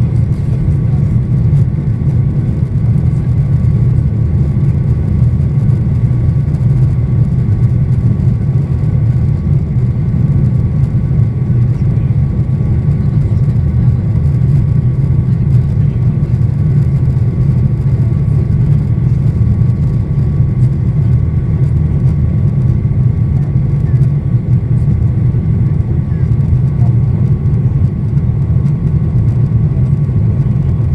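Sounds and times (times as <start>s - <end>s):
faint engine whine: 0.0s - 30.9s
jet engines rumbling in cabin: 0.0s - 30.9s.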